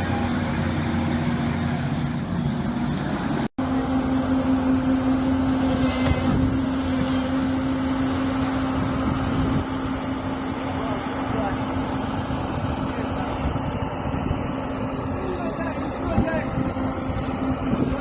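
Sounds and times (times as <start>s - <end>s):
engine humming: 0.0s - 18.0s
heavy machinery engine running: 0.0s - 18.0s.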